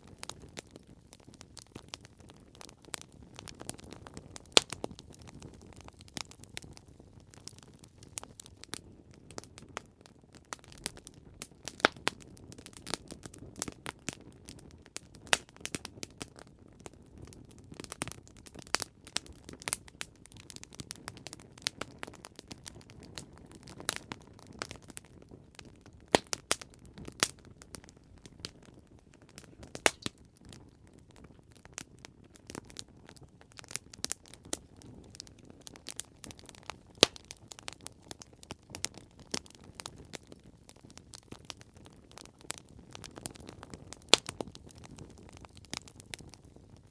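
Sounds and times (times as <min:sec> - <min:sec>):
burning wood crackling: 0:00.0 - 0:46.9.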